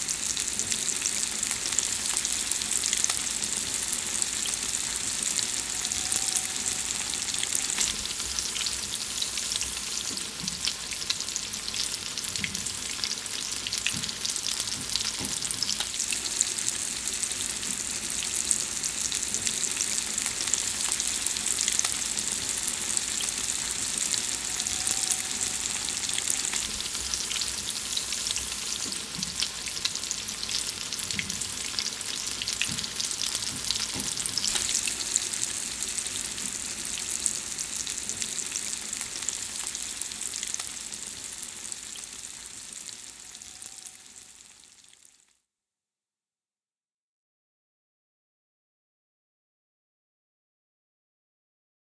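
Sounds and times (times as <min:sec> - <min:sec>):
food frying with crackles and pops: 0:00.0 - 0:45.4.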